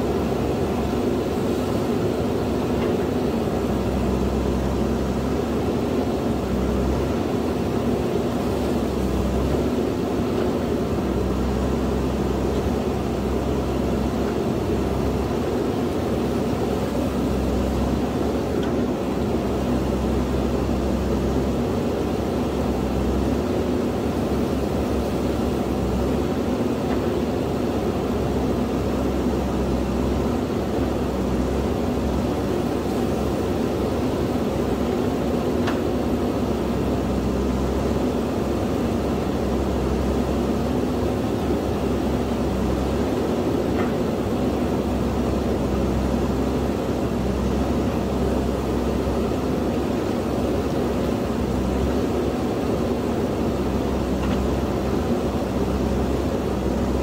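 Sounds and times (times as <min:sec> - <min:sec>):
backhoe diesel engine working: 0:00.0 - 0:57.0.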